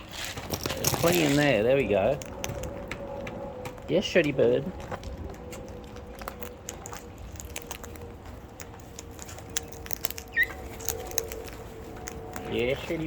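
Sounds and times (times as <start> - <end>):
birds pecking and cracking food: 0.0 - 13.0.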